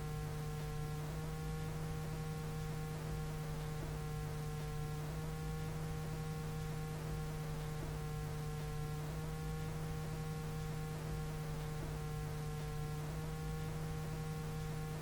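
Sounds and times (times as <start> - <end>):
faint steady tones: 0.0 - 15.0
faint ticks: 0.0 - 15.0
steady low hum: 0.0 - 15.0.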